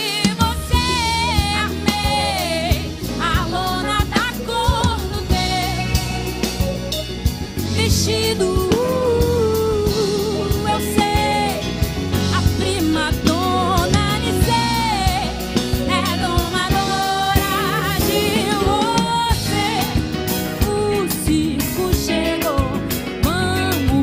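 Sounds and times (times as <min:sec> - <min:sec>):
woman singing lead vocal: 0:00.0 - 0:06.8, 0:07.6 - 0:24.0
live band playing: 0:00.0 - 0:24.0.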